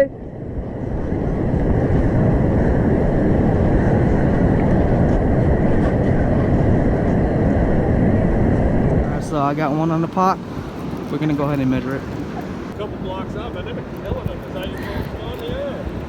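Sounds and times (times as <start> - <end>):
ocean surf breaking: 0.0 - 16.0
wind on microphone: 0.0 - 16.0.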